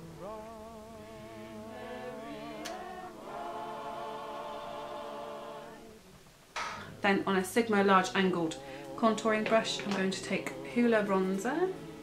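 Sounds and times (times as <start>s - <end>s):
choir singing held notes: 0.0s - 6.2s, 6.8s - 12.0s.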